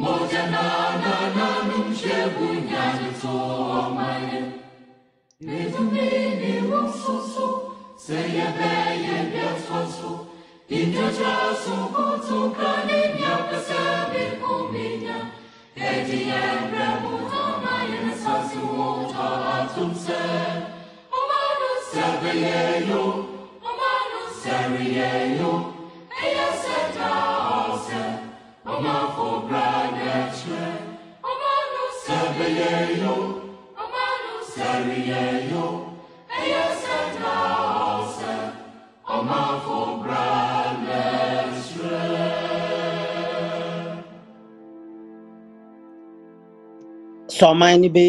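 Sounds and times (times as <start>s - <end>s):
choir singing: 0.0s - 47.8s.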